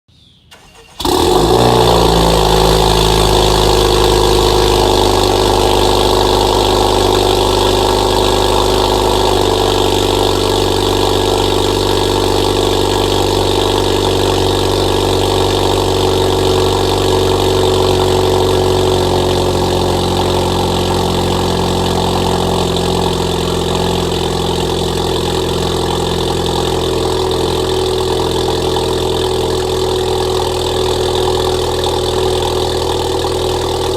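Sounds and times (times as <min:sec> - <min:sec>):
car engine starting and idling: 0:00.4 - 0:33.9.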